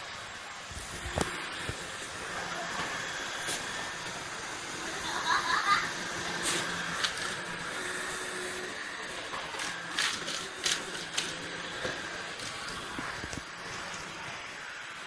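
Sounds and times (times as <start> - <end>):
vacuum cleaner whirring: 0.0 - 15.0.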